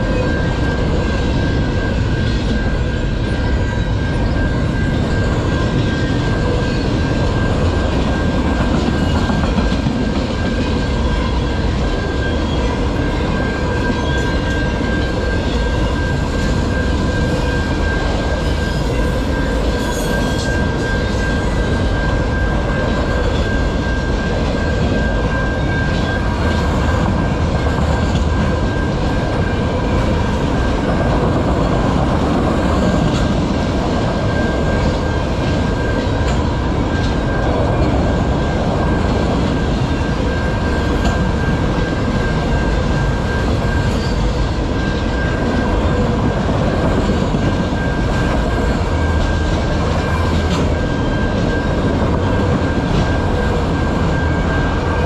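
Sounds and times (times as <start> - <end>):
freight train rumbling past: 0.0 - 55.0
steady high ringing tone: 0.0 - 55.0.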